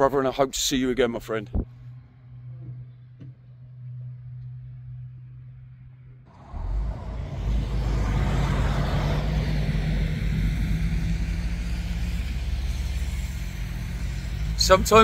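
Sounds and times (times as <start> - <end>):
road traffic driving past: 1.7 - 15.0.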